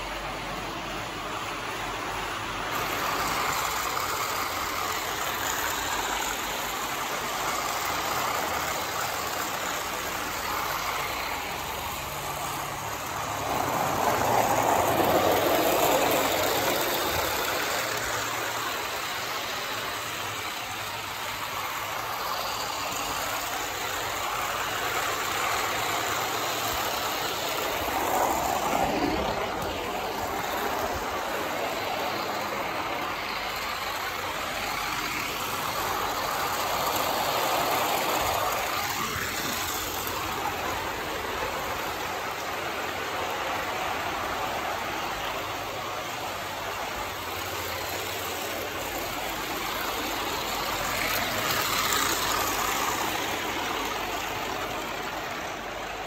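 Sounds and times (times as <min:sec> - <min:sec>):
model train motor and wheels rumbling: 0:00.0 - 0:56.0.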